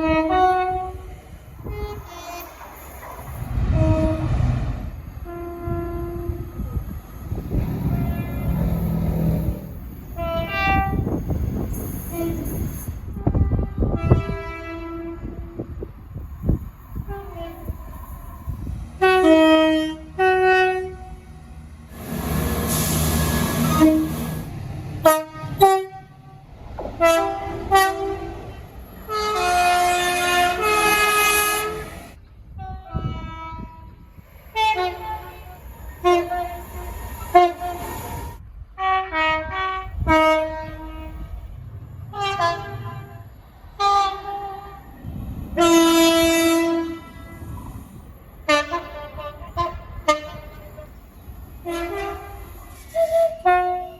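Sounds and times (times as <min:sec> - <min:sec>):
train horn blasts: 0:00.0 - 0:02.6, 0:03.6 - 0:06.8, 0:07.7 - 0:11.3, 0:12.1 - 0:15.8, 0:17.0 - 0:17.7, 0:19.0 - 0:21.3, 0:22.7 - 0:45.0, 0:45.6 - 0:47.6, 0:48.4 - 0:53.9
passing train rushing: 0:00.0 - 0:53.9.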